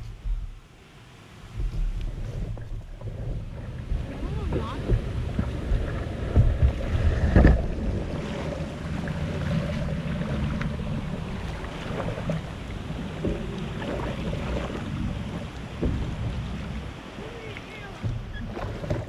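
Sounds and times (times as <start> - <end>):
river water rushing: 0.6 - 19.0
wind buffeting microphone: 1.4 - 19.0.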